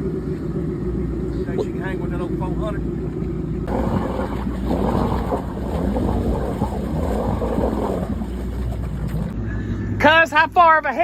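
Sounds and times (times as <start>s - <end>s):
motorboat engine running: 0.0s - 9.6s.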